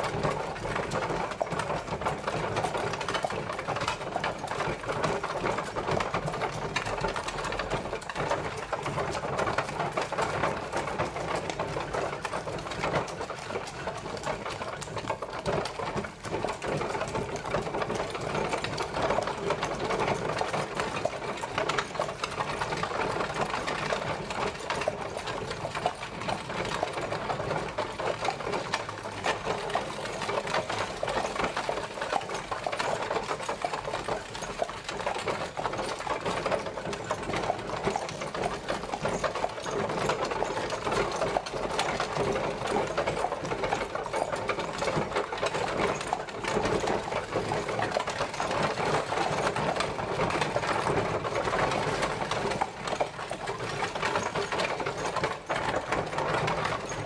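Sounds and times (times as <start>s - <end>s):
horse-drawn carriage rattling: 0.0s - 57.0s.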